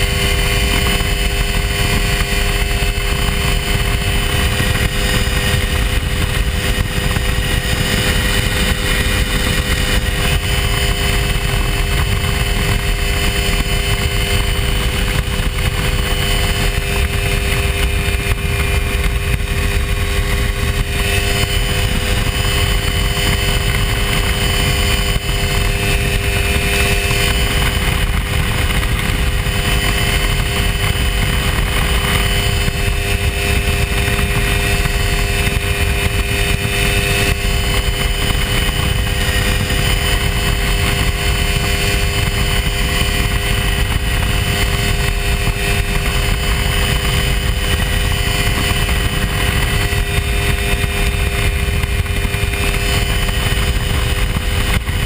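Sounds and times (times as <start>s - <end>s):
aircraft engine running: 0.0s - 55.0s.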